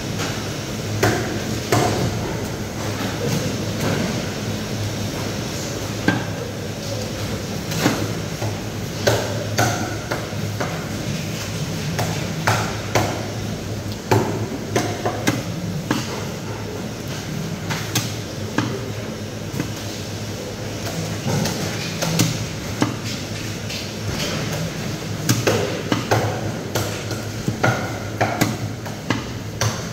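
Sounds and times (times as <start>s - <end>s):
steady background hum: 0.0s - 29.9s.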